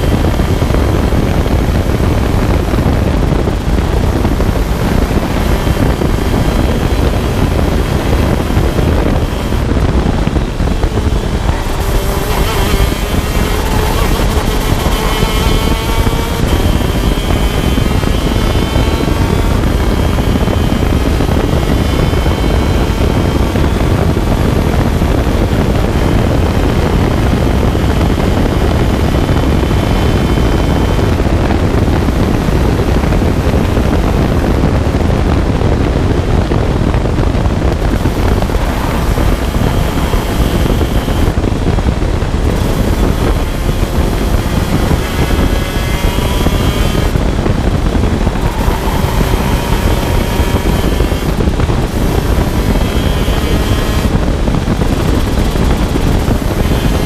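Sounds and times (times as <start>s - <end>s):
heavy wind rush: 0.0s - 57.0s
kart engine running hard: 0.0s - 57.0s.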